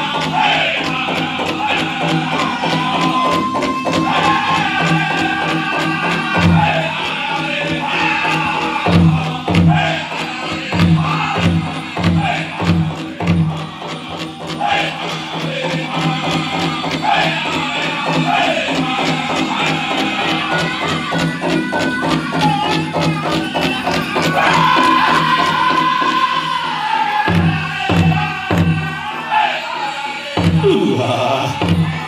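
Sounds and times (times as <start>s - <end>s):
big drum beating: 0.0s - 29.2s, 30.4s - 32.0s
singers' voices sliding up and down: 0.0s - 32.0s.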